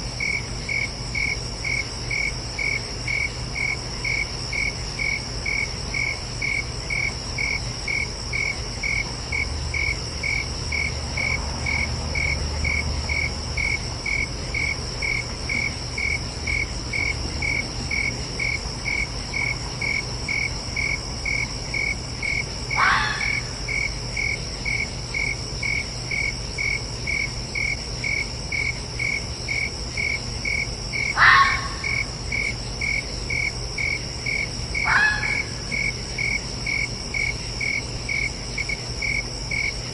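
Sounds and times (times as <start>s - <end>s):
crickets chirping: 0.0s - 39.9s
high insect trill: 0.0s - 39.9s.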